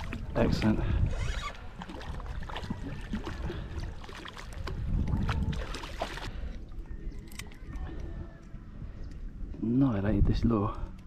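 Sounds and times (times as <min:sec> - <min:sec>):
wind rumble: 0:00.0 - 0:10.5
water on rocky shore: 0:00.0 - 0:11.0.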